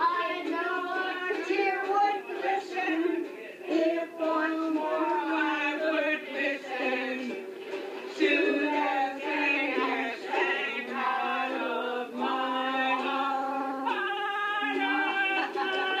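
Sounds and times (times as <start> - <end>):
group singing together: 0.0 - 16.0
strummed ukulele: 0.0 - 16.0.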